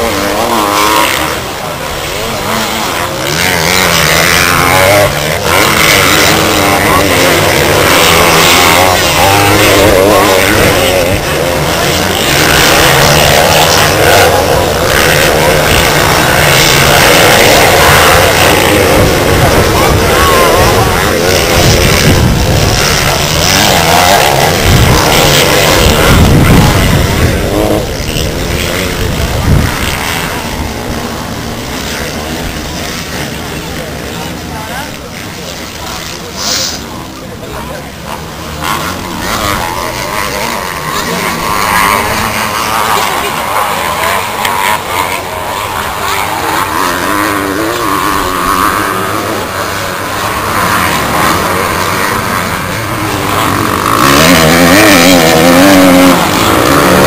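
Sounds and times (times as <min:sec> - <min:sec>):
motocross engines revving: 0:00.0 - 0:57.0.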